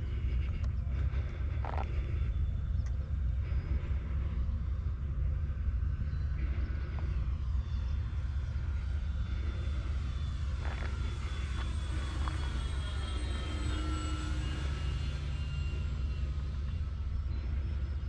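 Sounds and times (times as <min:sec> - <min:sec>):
model plane electric motors whining: 0:00.0 - 0:18.0
steady low rumble: 0:00.0 - 0:18.0.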